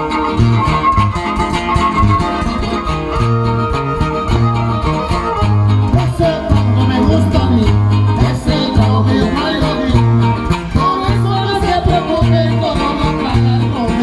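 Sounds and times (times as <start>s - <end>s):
violin melody: 0.0s - 11.7s
strummed guitars: 0.0s - 14.0s
steady bass pulse: 0.1s - 13.9s.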